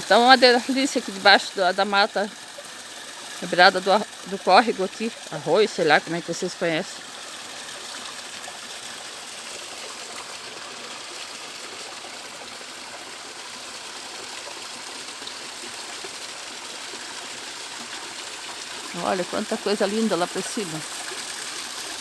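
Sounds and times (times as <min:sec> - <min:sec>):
creek flowing over stones: 0:00.0 - 0:22.0.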